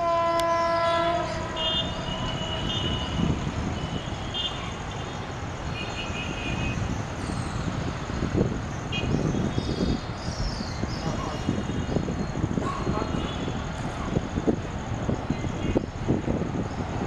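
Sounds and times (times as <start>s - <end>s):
low rumble of trains: 0.0s - 17.0s.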